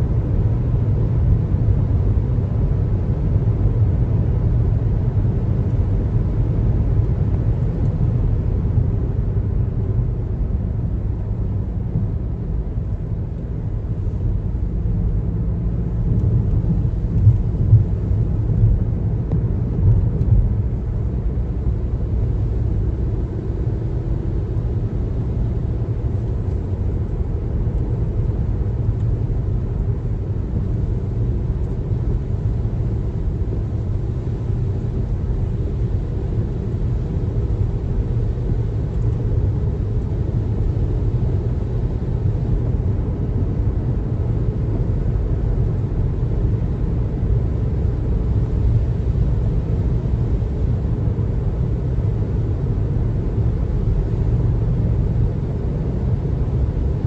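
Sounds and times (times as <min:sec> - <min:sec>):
road and tyre rumble: 0:00.0 - 0:57.0.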